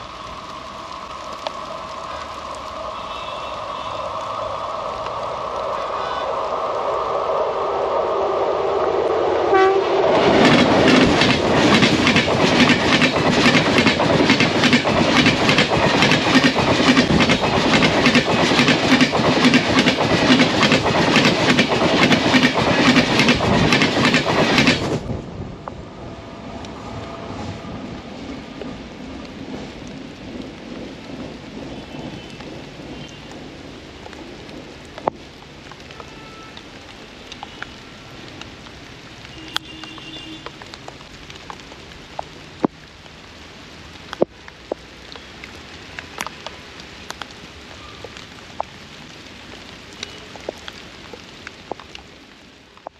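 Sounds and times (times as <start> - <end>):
raindrops ticking on surfaces: 0.0 - 6.0, 10.4 - 52.9
train rumbling: 0.0 - 42.4
rain hissing: 0.0 - 52.9.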